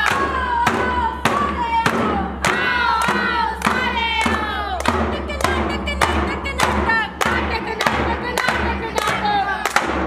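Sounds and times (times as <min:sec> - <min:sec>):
frame drum beat: 0:00.0 - 0:10.0
hand claps: 0:00.0 - 0:10.0
women singing together: 0:00.0 - 0:10.0.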